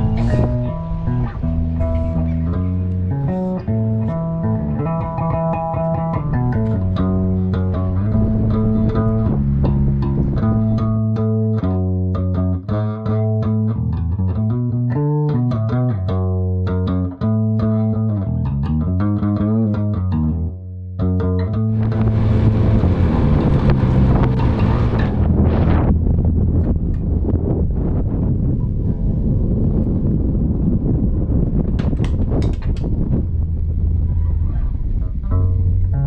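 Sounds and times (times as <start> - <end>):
plucked guitar with bass: 0.0 - 36.0.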